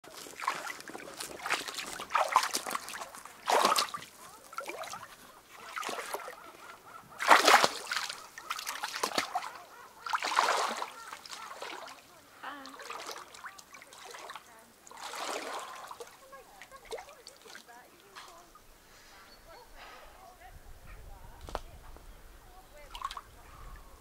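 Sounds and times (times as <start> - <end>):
water splashing around swimmer: 0.0 - 18.7, 22.8 - 23.4.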